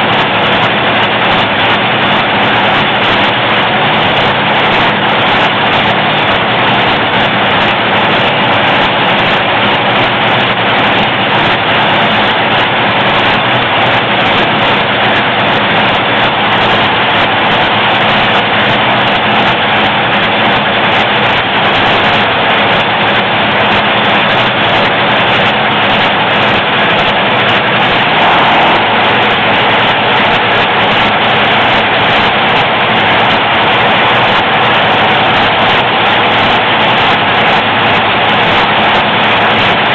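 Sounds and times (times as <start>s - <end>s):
dragster engine running loud: 0.0s - 39.9s.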